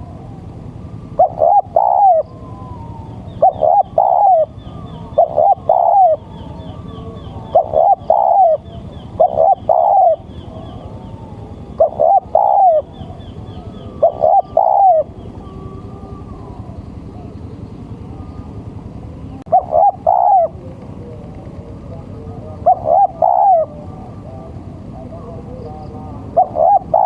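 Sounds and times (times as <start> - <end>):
dove cooing: 0.0 - 27.0
small birds chirping: 1.2 - 27.0.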